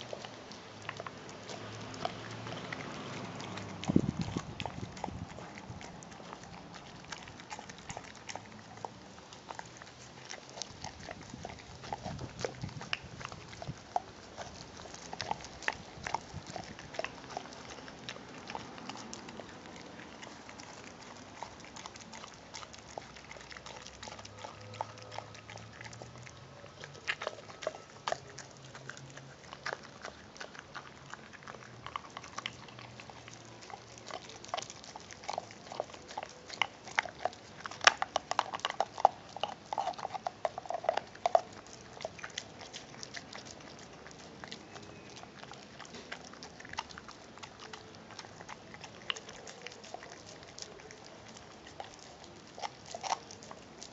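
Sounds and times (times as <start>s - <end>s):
dog chewing meat on bone: 0.0s - 53.9s.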